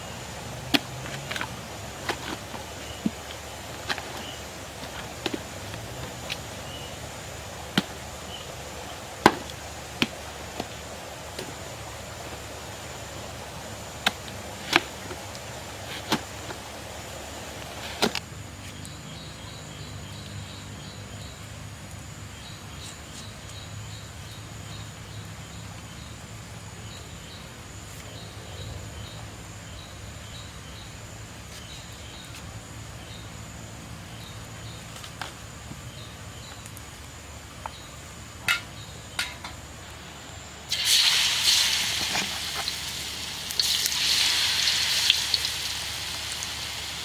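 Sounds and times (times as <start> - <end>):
steady low hum: 0.0 - 41.3.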